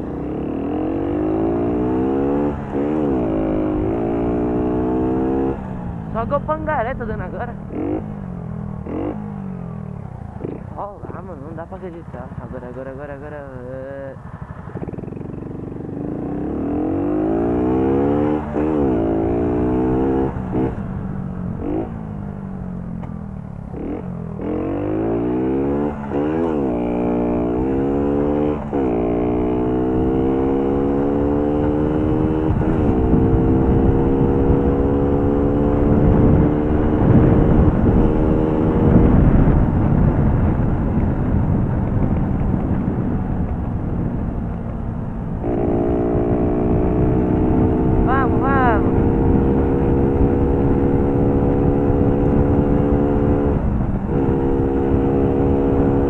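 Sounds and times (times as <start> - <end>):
moped engine revving: 0.0 - 56.0
wind noise on microphone: 0.0 - 56.0.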